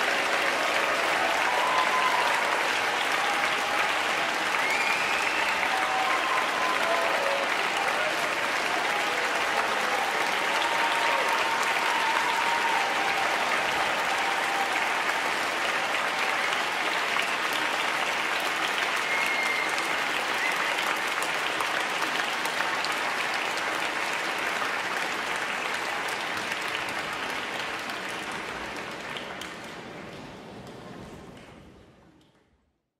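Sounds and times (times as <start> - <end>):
audience applauding: 0.0 - 31.7.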